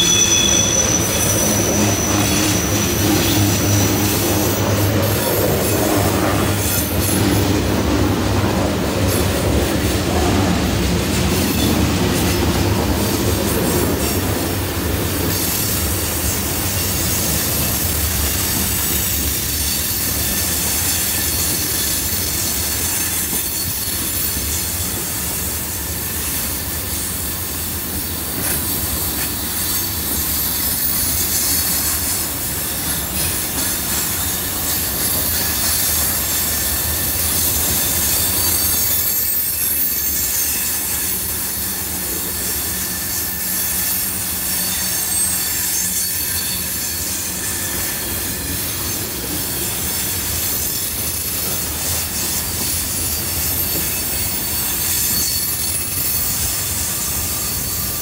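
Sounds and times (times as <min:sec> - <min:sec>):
low train rumble: 0:00.0 - 0:58.0
train wheels squealing on rails: 0:00.0 - 0:58.0.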